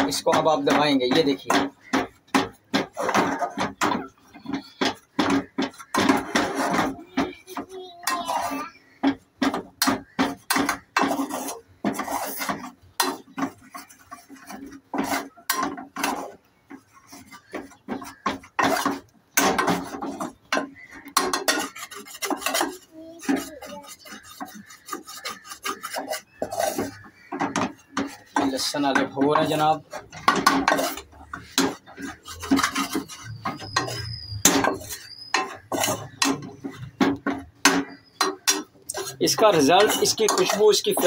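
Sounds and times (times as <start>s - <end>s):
spoon scraping flour in a metal pan: 0.0s - 41.0s.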